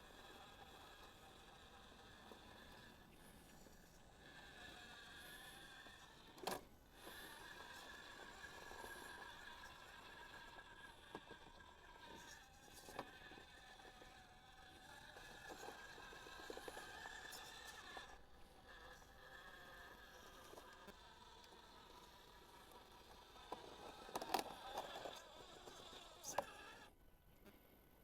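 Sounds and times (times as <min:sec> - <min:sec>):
electric motor whine: 0:00.0 - 0:27.0.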